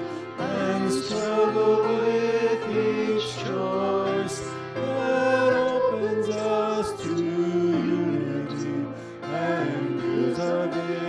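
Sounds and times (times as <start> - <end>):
group singing worship song: 0.0 - 11.0.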